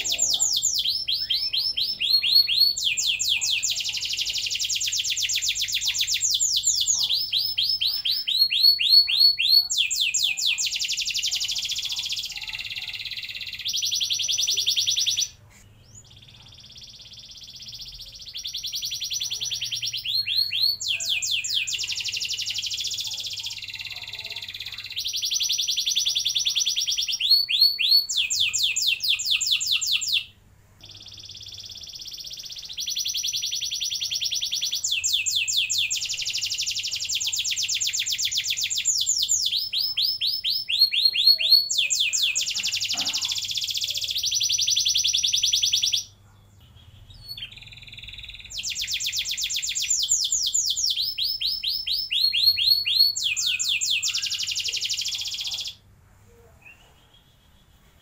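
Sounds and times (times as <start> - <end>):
canary singing: 0.0 - 55.9.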